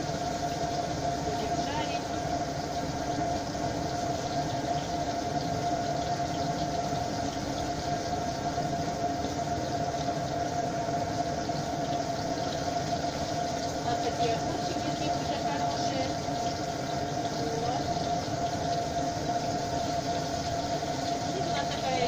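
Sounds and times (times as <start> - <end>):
fish sizzling in oil: 0.0 - 22.0
steady hum with held tone: 0.0 - 22.0.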